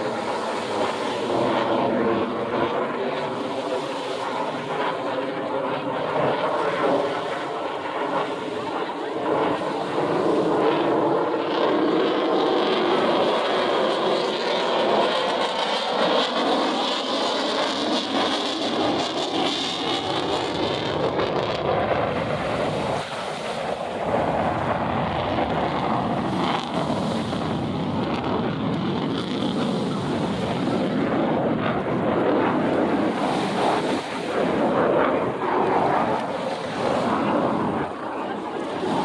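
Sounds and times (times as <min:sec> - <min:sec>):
fighter jet flying past: 0:00.0 - 0:39.0
wind on microphone: 0:00.0 - 0:39.0.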